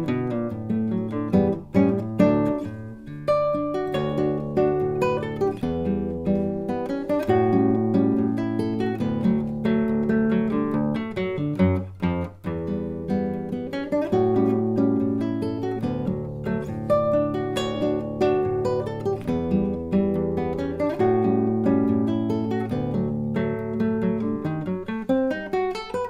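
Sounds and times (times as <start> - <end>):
fingerpicked acoustic guitar: 0.0 - 26.0.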